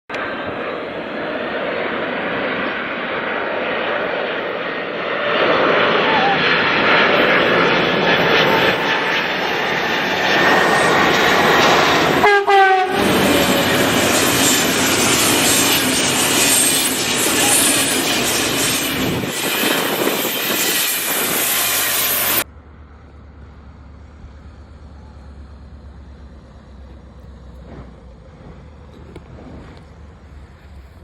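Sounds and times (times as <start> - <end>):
jet engine roar: 0.1 - 31.0.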